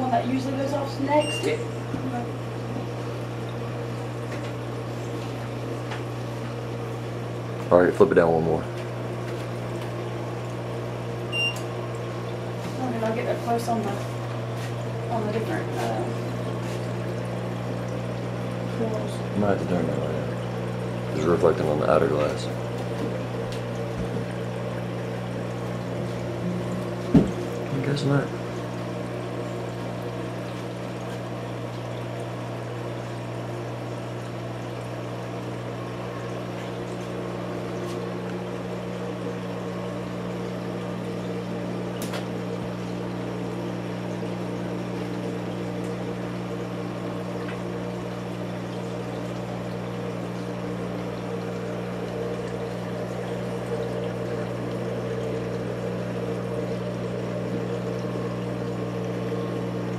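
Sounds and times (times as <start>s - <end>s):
aquarium pump hum: 0.0s - 59.9s
water pouring and trickling: 0.0s - 59.9s.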